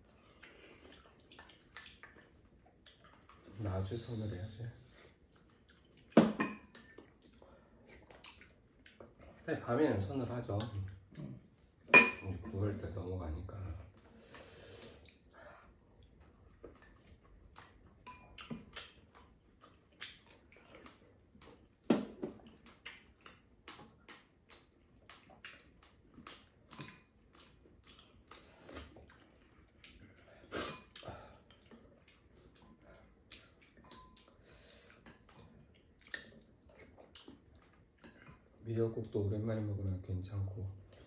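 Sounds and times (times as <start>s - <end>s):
people chewing: 0.0s - 4.1s, 4.8s - 9.5s, 10.6s - 11.9s, 13.8s - 39.2s.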